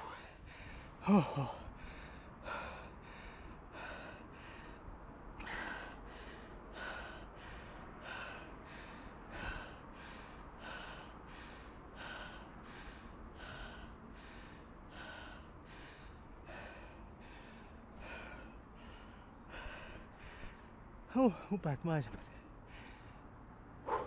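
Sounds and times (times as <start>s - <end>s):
person breathing hard: 0.0s - 21.6s, 22.2s - 24.0s.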